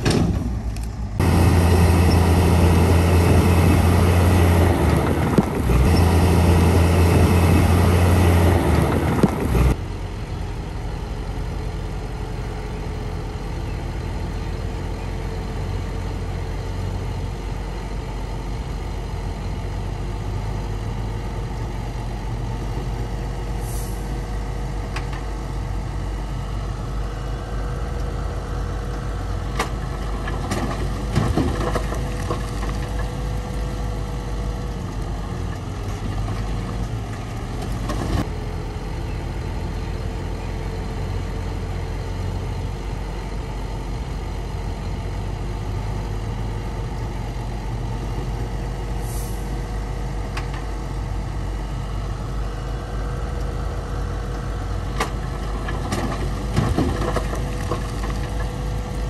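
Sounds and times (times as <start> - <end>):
heavy machinery engine rumble: 0.0 - 59.0.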